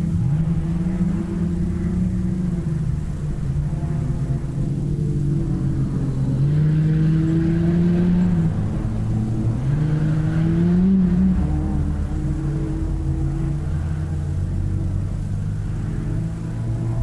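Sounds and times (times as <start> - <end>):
racing buggy engine accelerating: 0.0 - 17.0
steady low engine rumble: 0.0 - 17.0.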